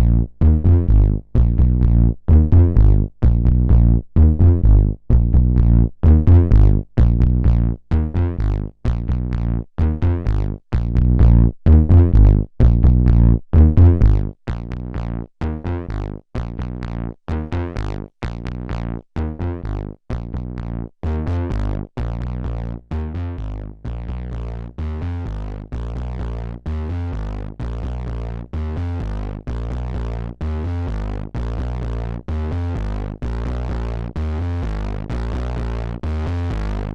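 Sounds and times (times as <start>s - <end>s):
distorted synth bass notes: 0.0s - 36.9s.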